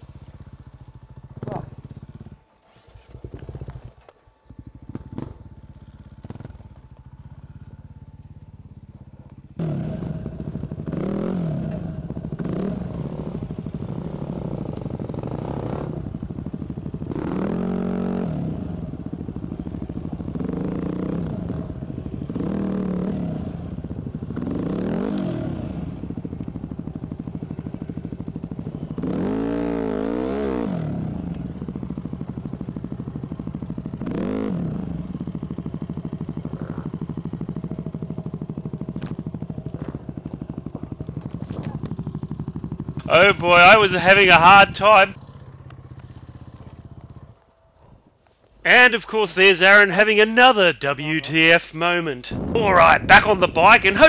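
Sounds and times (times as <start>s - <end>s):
dirt bike engine revving: 4.6s - 6.8s, 9.6s - 47.2s, 48.7s - 54.0s.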